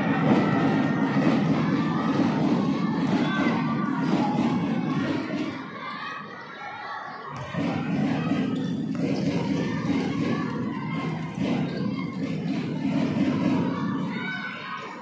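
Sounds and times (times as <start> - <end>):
children shouting and cheering: 0.0 - 15.0.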